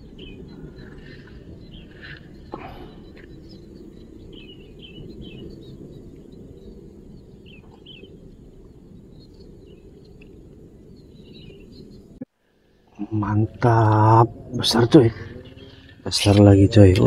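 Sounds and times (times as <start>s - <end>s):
low rushing background noise: 0.0s - 17.0s
small birds chirping: 0.0s - 17.0s.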